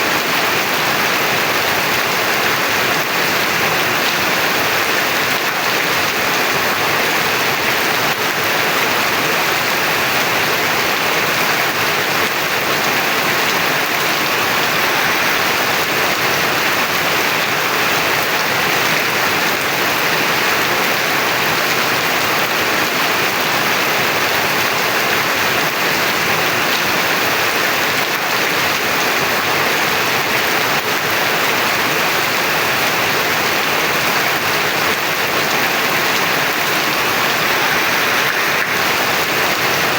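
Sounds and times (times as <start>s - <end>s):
heavy rain hissing: 0.0s - 27.6s, 32.2s - 39.9s.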